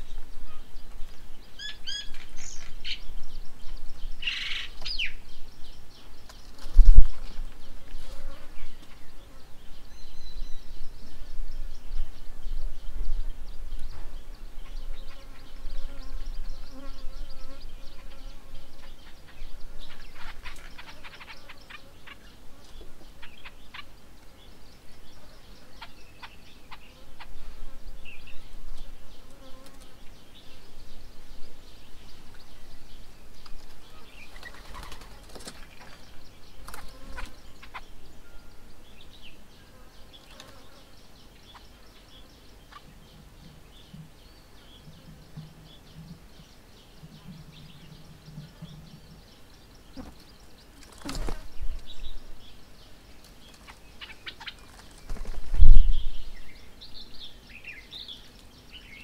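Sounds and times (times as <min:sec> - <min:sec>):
insects buzzing: 0:00.0 - 0:59.0.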